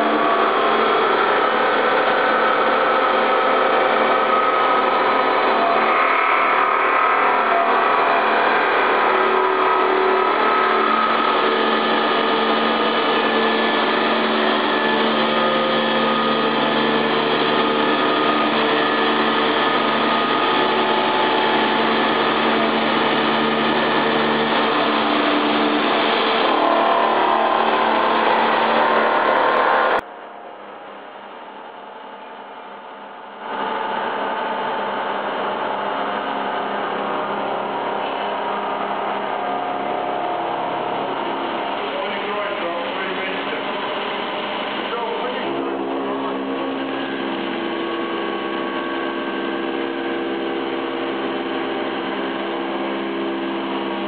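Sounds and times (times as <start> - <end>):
machine whining tones: 0.0 - 30.0, 30.6 - 54.0
milling machine drone: 0.0 - 30.0, 31.8 - 54.0.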